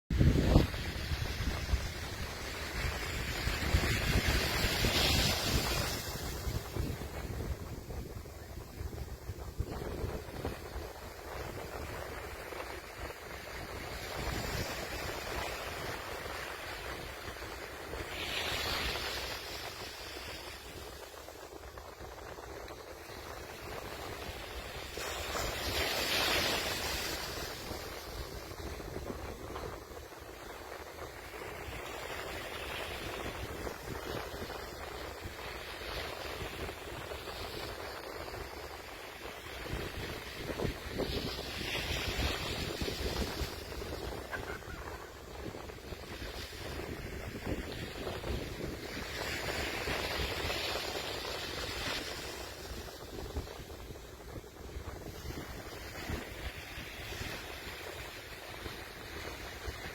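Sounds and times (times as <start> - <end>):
ocean waves breaking: 0.1 - 59.9
wind rumble on microphone: 0.1 - 59.9.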